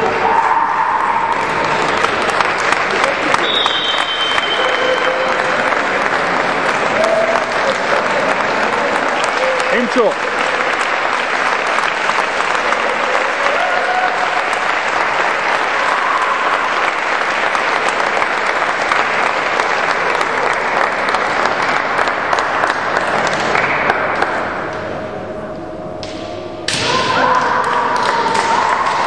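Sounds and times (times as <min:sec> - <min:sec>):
audience applauding: 0:00.9 - 0:24.6, 0:27.4 - 0:29.0.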